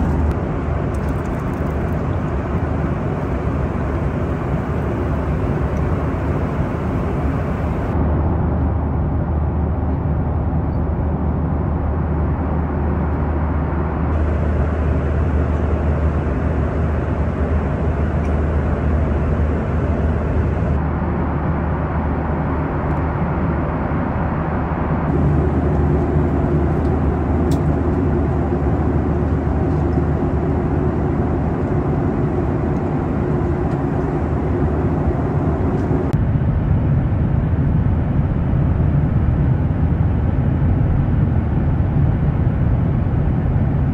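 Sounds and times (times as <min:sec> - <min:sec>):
airplane cabin engine hum: 0:00.0 - 0:43.9.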